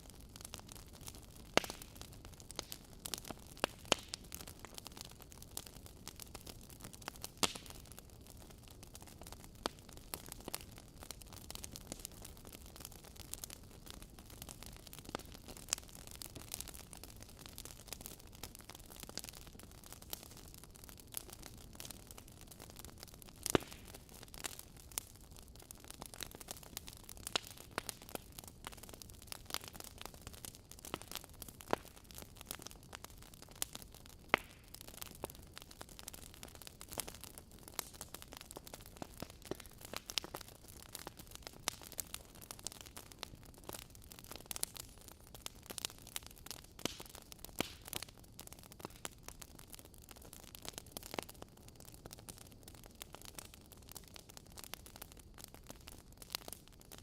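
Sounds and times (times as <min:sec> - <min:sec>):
soft steady hiss: 0:00.0 - 0:57.0
wood fire crackling: 0:00.0 - 0:57.0.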